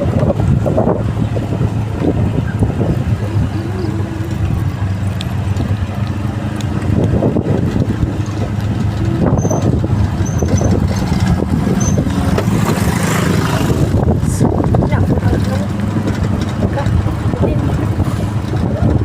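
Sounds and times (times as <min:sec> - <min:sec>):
motorbike engine humming: 0:00.0 - 0:19.0.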